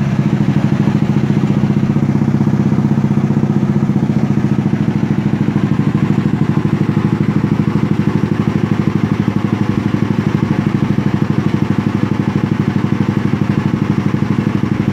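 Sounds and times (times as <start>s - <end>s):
scooter engine idling: 0.0s - 14.9s.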